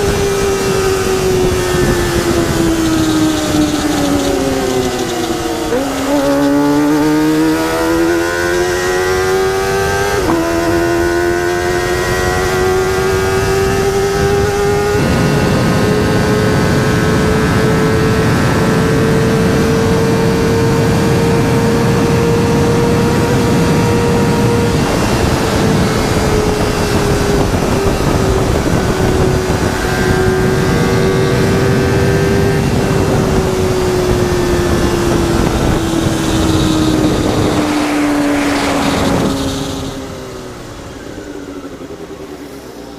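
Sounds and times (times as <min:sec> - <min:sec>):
wind rush: 0:00.0 - 0:42.4
motorcycle engine revving: 0:00.0 - 0:42.9.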